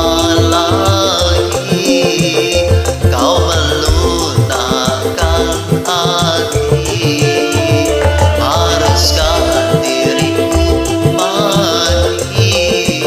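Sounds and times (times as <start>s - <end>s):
music with singing: 0.0s - 13.0s
steady bass line: 0.0s - 13.0s.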